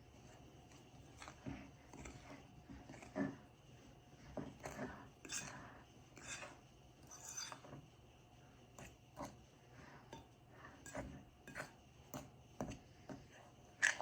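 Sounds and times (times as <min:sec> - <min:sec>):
fork scraping a mixing bowl: 0:00.0 - 0:08.0, 0:08.7 - 0:14.0.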